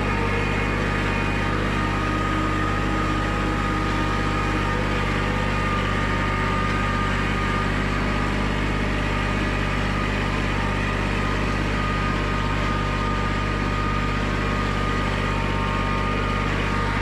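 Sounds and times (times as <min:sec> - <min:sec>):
thin steady whine: 0:00.0 - 0:17.0
tractor diesel engine running: 0:00.0 - 0:17.0.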